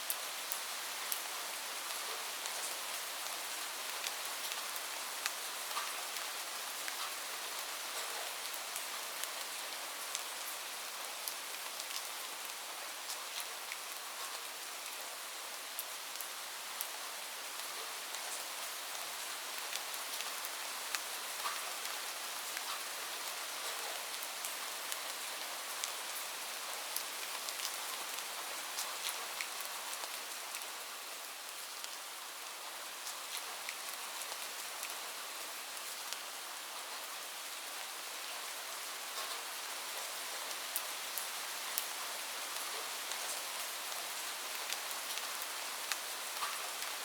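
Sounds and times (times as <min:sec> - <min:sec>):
light rain falling: 0:00.0 - 0:47.0.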